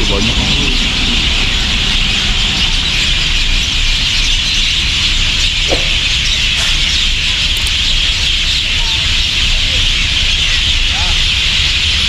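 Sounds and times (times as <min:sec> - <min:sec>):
steady low rumble: 0:00.0 - 0:11.8
swallows twittering: 0:00.0 - 0:12.0.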